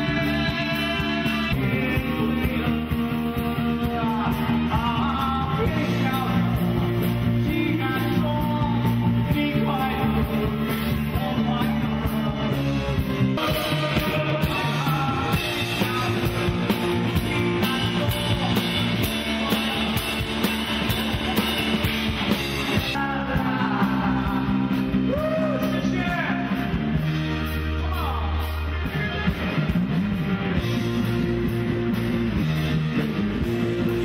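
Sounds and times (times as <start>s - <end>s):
lead singer singing: 0.0s - 30.6s
rock band playing: 0.0s - 34.0s.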